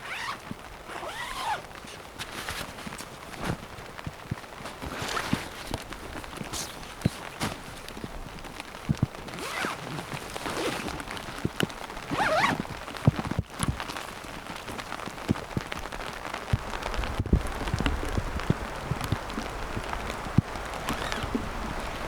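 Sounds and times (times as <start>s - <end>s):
rain pattering in a forest: 0.0s - 22.0s.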